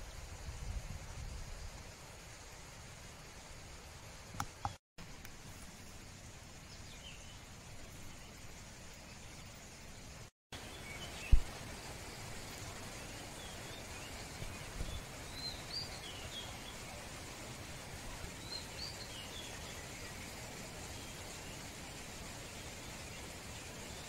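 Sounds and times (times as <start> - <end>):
outdoor background hiss: 0.0 - 24.0.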